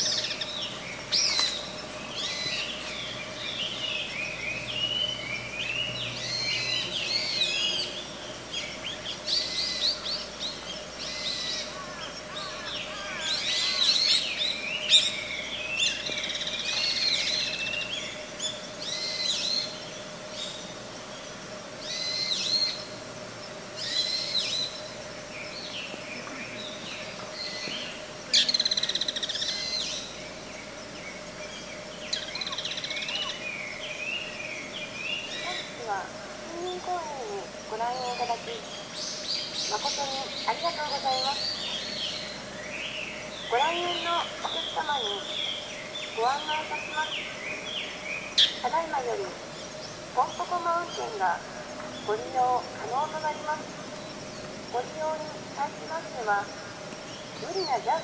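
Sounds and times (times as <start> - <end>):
faint steady hum: 0.0 - 58.0
small birds chirping: 0.0 - 58.0.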